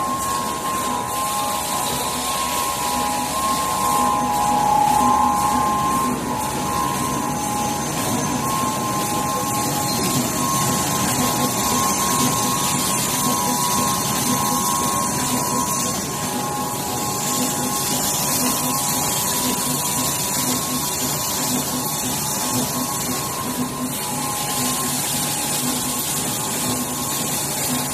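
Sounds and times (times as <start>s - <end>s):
printing machine running: 0.0s - 27.9s.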